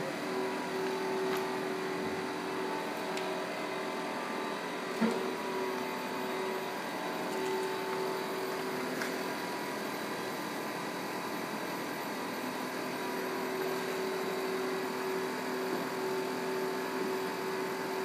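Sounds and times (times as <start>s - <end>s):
machine motor hum: 0.0s - 18.0s.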